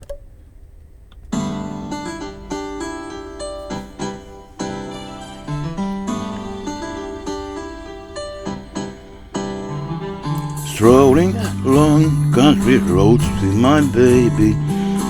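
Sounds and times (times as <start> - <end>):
pop ballad on keyboard: 1.4 - 15.0.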